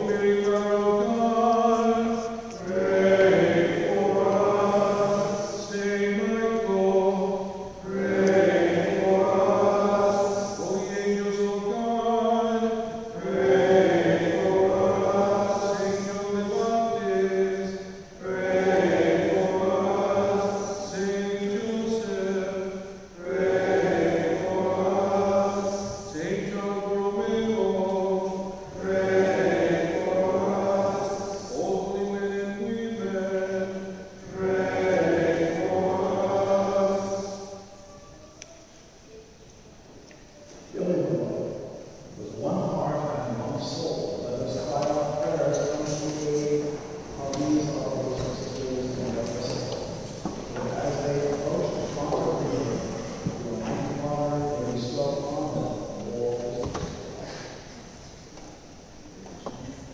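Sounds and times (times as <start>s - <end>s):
liturgical chant singing: 0.0s - 59.9s.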